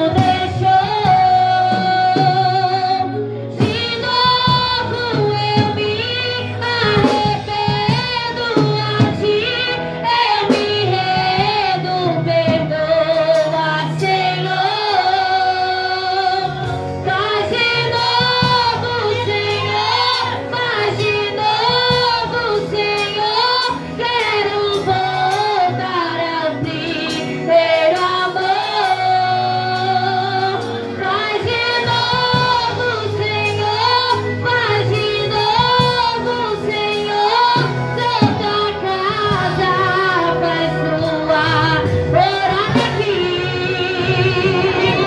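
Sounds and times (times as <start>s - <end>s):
woman singing gospel song: 0.0s - 45.0s.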